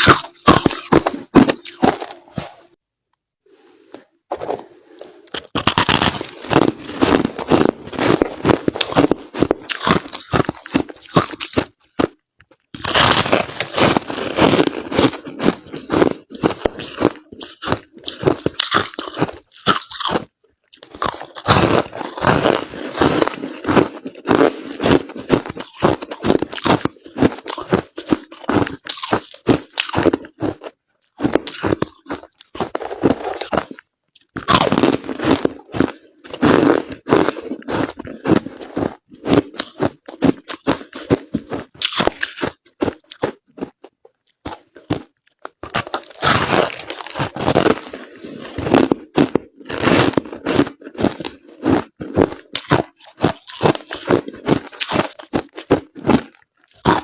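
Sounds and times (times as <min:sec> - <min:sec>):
crushed ice crunching: 0:00.0 - 0:02.7, 0:04.3 - 0:12.2, 0:12.8 - 0:43.8, 0:44.5 - 0:57.0.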